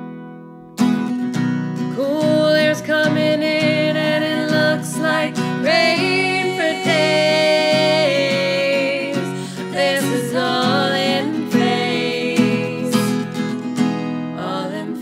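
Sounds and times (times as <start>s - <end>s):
acoustic guitar strumming: 0.0s - 15.0s
women singing in harmony: 2.0s - 15.0s.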